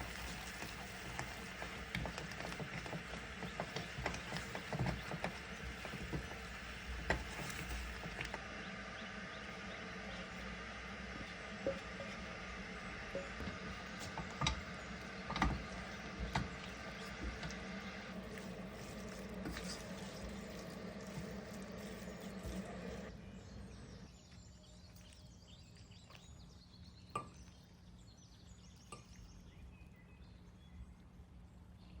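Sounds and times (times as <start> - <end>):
steady kitchen hum: 0.0 - 32.0.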